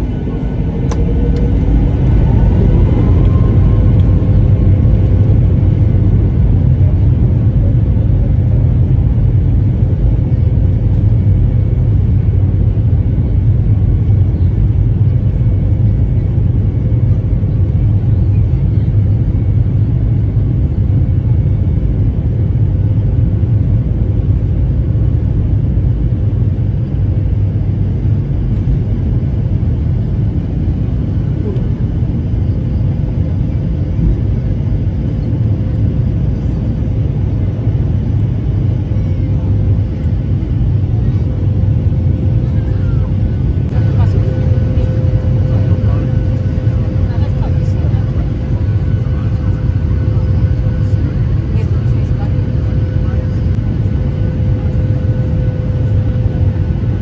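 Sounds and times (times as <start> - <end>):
airliner engines and wheels rumbling: 0.0 - 57.0
jet engine whine: 0.0 - 57.0.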